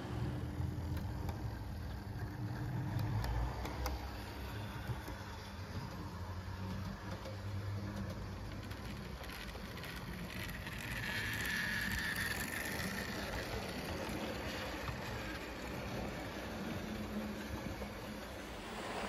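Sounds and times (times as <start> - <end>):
model train running with whine: 0.0 - 19.0.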